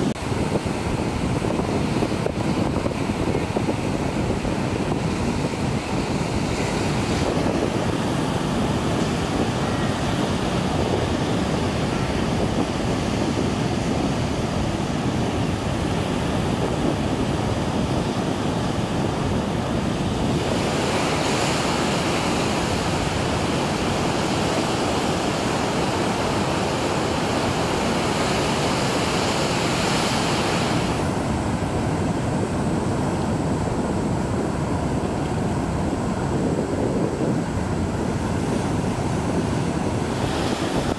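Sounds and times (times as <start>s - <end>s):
surf washing over rocks: 0.0s - 40.9s
wind on microphone: 0.0s - 40.9s.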